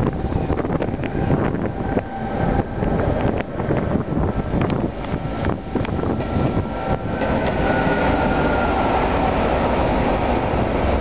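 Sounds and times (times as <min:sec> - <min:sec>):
diesel locomotive passing: 0:00.0 - 0:11.0.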